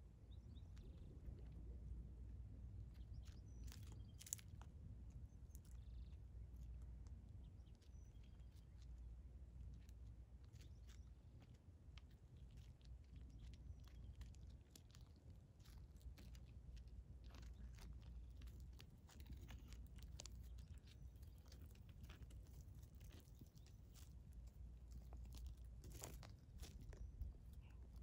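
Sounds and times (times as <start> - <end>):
low steady rumble: 0.0 - 28.0
tortoise feet stepping on gravel: 2.8 - 28.0.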